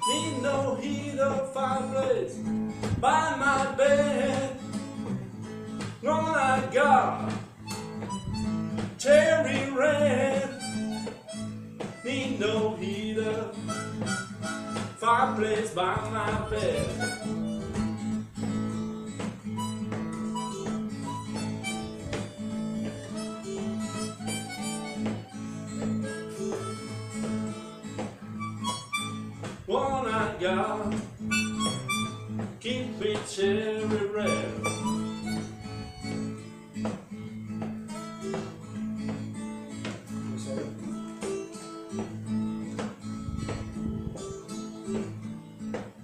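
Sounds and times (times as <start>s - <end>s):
acoustic guitar riff: 0.0s - 46.0s
blues harmonica: 0.0s - 46.0s.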